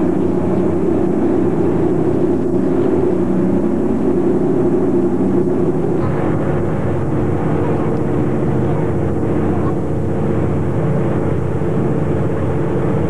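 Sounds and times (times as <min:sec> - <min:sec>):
ferry engine droning: 0:00.0 - 0:13.0.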